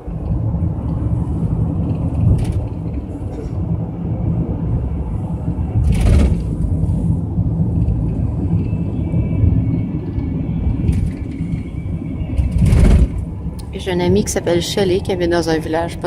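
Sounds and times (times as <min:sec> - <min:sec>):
coach engine and road rumble: 0:00.0 - 0:16.0.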